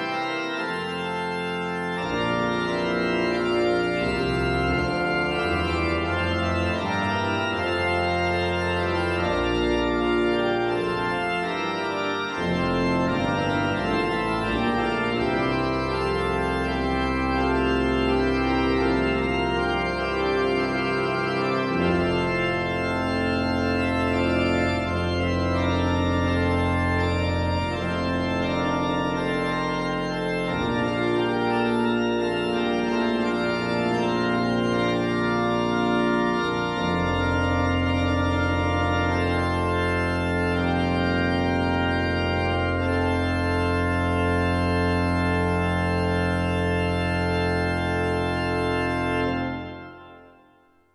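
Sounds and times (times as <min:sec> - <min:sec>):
pipe organ playing chords: 0:00.0 - 0:50.9.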